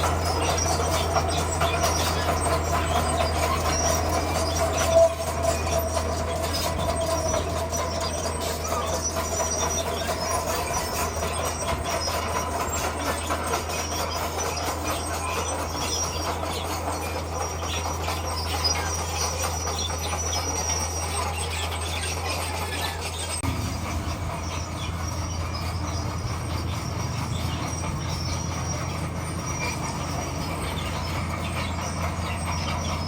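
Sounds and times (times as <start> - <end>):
diesel engine running: 0.0 - 33.0
squeal: 0.0 - 33.0
steel tracks clattering: 0.0 - 33.0.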